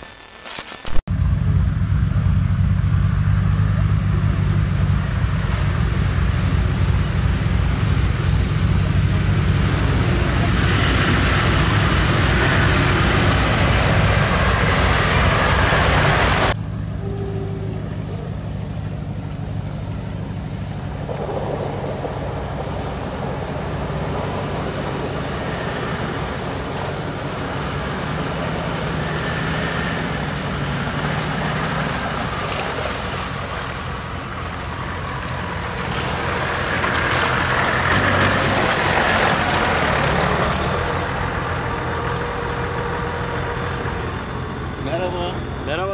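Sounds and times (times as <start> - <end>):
diesel engine working hard: 1.1 - 45.9
tyres churning mud: 3.3 - 16.6, 17.5 - 45.9.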